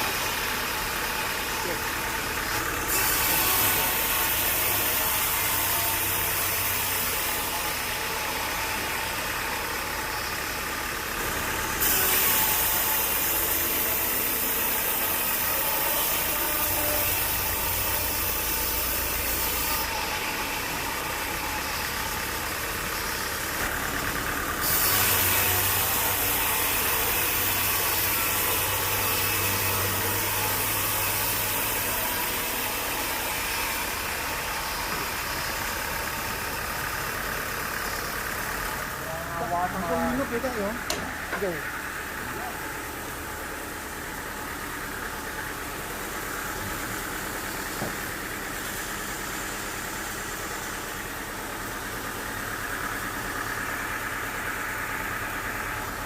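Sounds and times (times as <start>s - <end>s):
engine running with hum and hiss: 0.0s - 56.0s.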